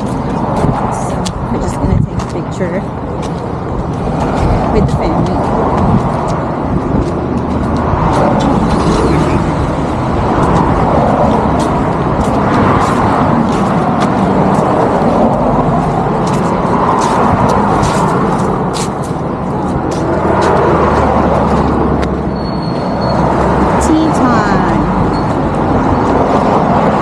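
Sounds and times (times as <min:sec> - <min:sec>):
road vehicle engine and tyre rush: 0:00.0 - 0:27.0.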